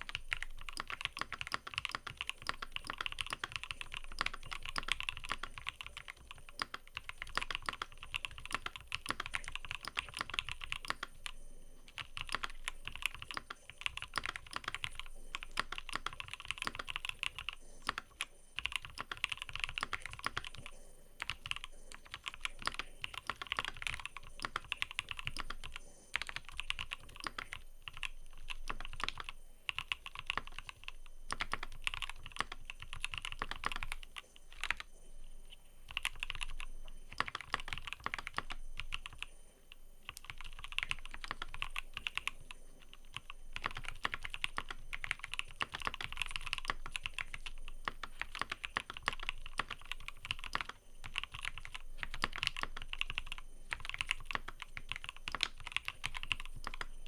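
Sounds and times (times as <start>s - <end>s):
mechanical keyboard typing: 0.0s - 34.9s, 35.9s - 39.3s, 40.0s - 57.0s.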